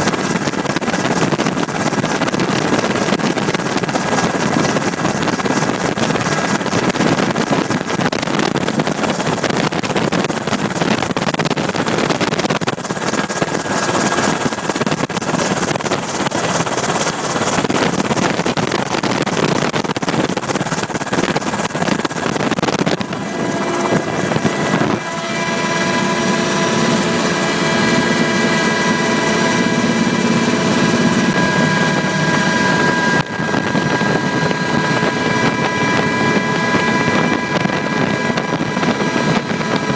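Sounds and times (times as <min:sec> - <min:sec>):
aircraft engine and wind noise: 0:00.0 - 0:39.9
steady whining tones: 0:00.0 - 0:39.9.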